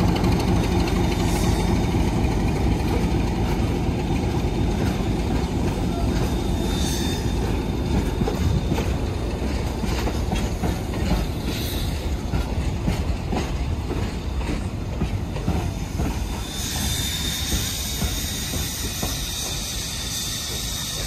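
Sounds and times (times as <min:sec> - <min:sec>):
train carriages rumbling: 0:00.0 - 0:21.0
steam hissing: 0:00.2 - 0:13.6, 0:14.2 - 0:21.0.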